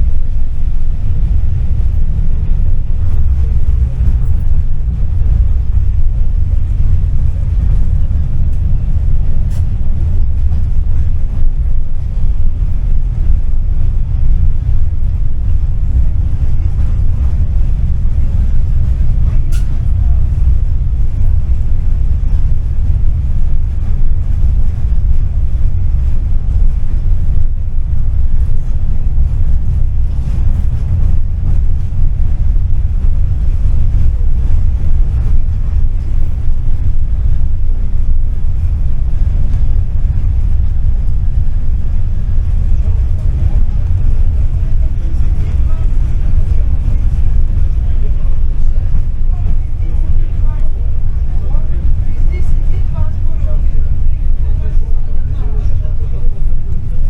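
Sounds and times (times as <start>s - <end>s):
tram running on rails: 0.0s - 57.0s.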